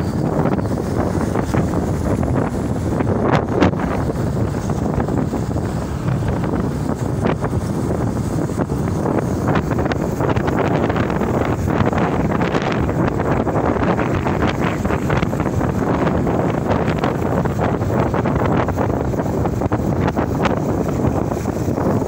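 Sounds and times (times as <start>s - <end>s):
tyres on road: 0.0s - 22.0s
wind buffeting microphone: 0.0s - 22.0s.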